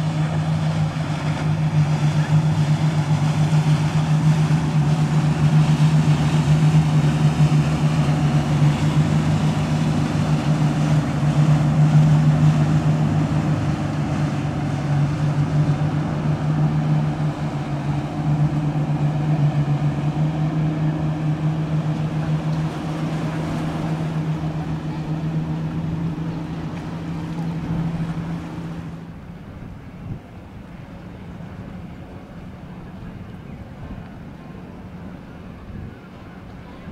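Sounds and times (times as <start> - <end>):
motorboat engine drone: 0.0 - 36.9.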